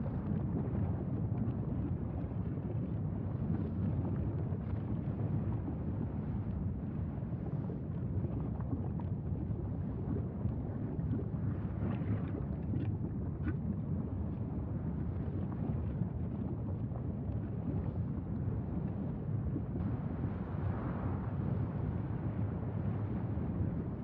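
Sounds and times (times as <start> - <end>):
faint crackles: 0.0 - 24.0
lava fountain rumbling: 0.0 - 24.0.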